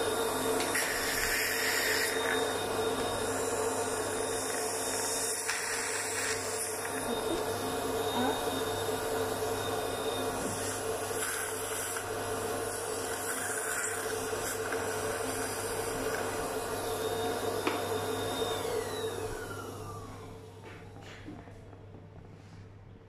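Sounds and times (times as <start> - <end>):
dental suction unit humming: 0.0 - 20.3.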